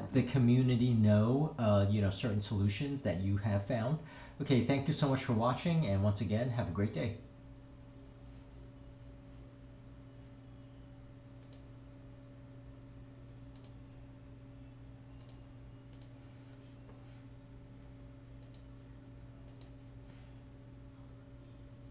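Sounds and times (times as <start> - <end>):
faint low hum: 0.0 - 21.9.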